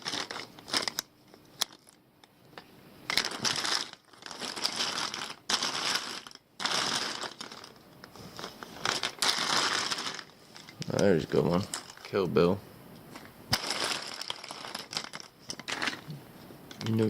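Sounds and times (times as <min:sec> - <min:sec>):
plastic lighters rustling and clattering: 0:00.0 - 0:17.0.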